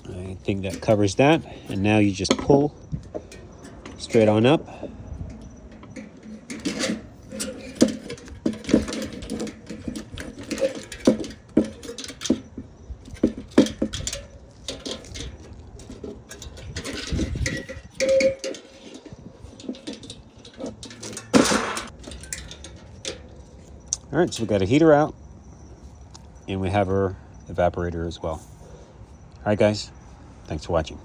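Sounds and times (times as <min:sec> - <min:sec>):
metal parts clicking and scraping: 0:00.0 - 0:25.0.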